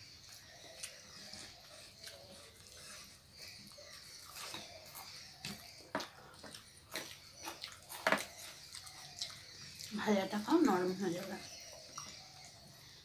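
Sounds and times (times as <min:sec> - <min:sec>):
chewing and lip smacks: 0:00.2 - 0:10.0, 0:11.2 - 0:12.9.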